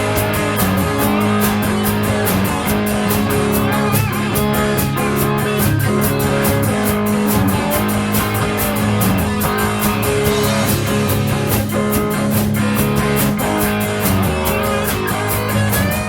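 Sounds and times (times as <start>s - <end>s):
drums keeping a steady beat: 0.0s - 16.0s
electric guitar playing rock: 0.0s - 16.0s.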